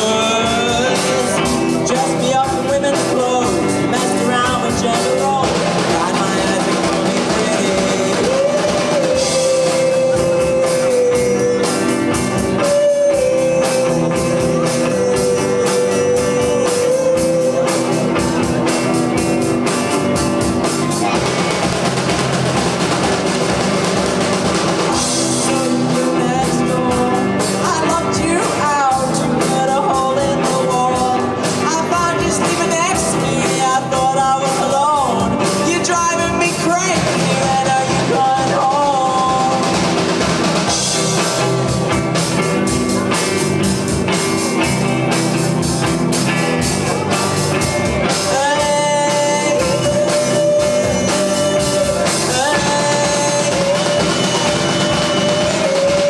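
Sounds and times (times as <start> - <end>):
lead singer singing: 0.0 - 56.0
live rock band playing: 0.0 - 56.0.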